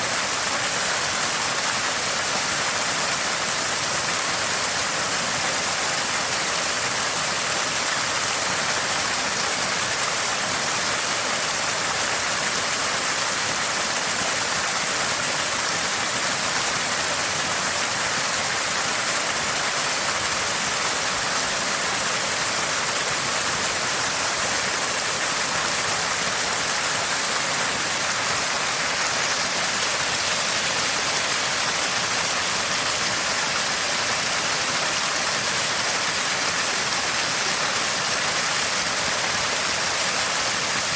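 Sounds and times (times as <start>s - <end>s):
water gushing from spring: 0.0s - 40.9s.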